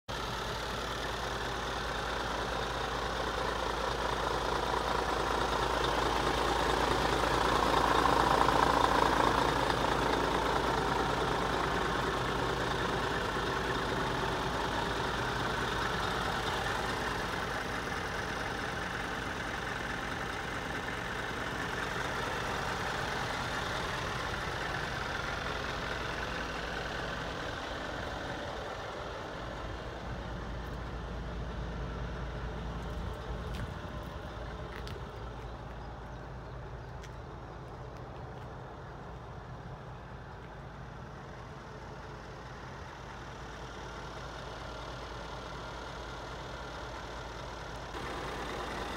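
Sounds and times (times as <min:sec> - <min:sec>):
diesel truck engine idling: 0:00.1 - 0:48.9.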